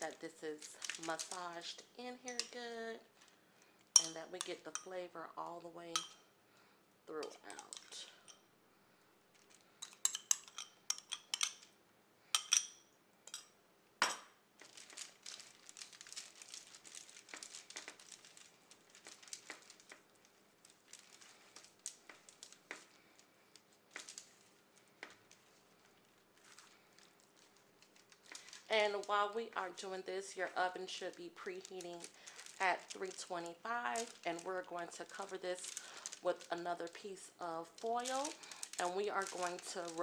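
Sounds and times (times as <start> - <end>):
aluminium foil crinkling: 0.0 - 6.2, 7.1 - 8.5, 9.3 - 11.8, 14.5 - 40.0.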